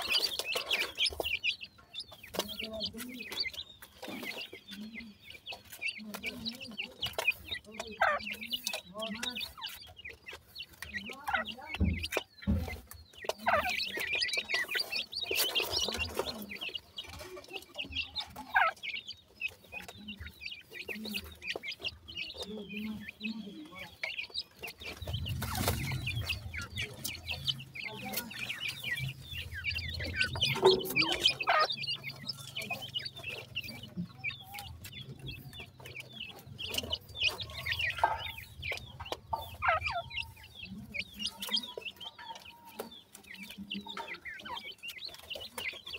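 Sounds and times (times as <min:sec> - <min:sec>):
chicks chirping and peeping: 0:00.0 - 0:45.9
pecking and scratching at soil: 0:00.0 - 0:45.9.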